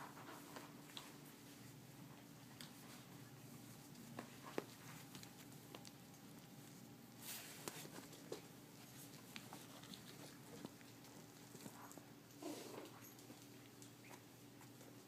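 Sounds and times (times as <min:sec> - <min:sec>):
puppy paws scrabbling on bedding: 0:00.0 - 0:15.0.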